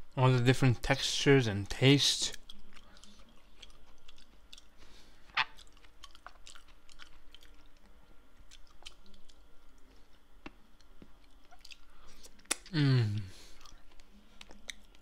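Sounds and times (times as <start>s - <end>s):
person chewing: 2.3s - 15.0s.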